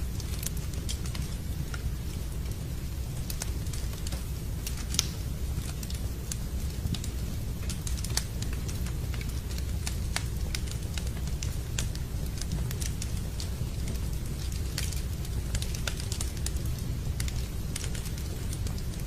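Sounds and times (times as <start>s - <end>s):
rain: 0.0s - 19.0s
wood fire crackling: 0.0s - 19.0s.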